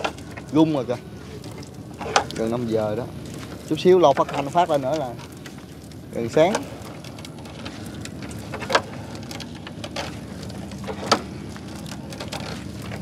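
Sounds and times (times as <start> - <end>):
wet net hauled into boat: 0.0 - 13.0.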